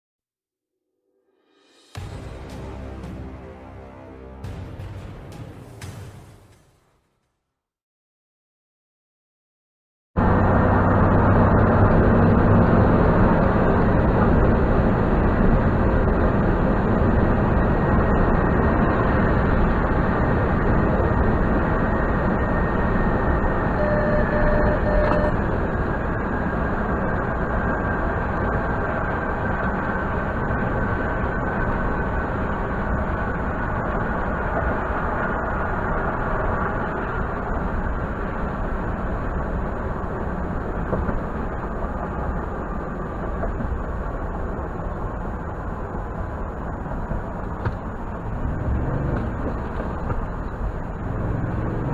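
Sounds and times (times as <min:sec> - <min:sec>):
muffled road and engine rumble: 0:10.2 - 0:51.9.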